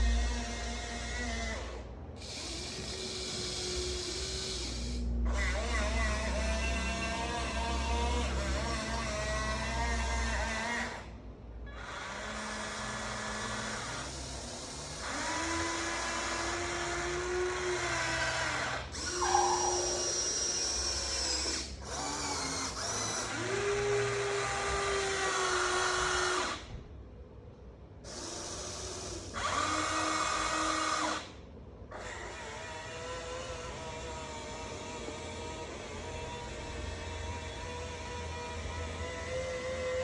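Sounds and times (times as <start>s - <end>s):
electric gear motors whining: 0.0s - 26.7s, 28.0s - 40.0s.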